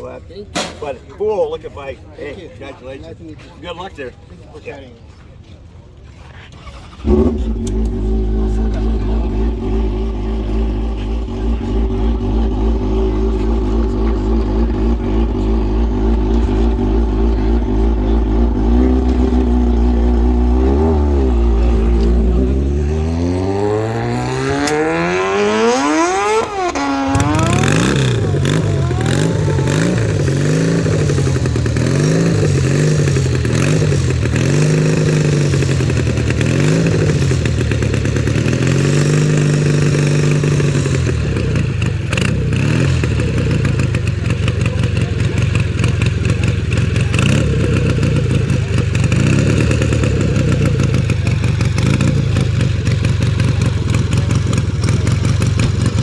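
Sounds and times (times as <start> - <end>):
motorcycle throttle blipping: 6.6 - 56.0
engine climbing in pitch: 6.7 - 56.0.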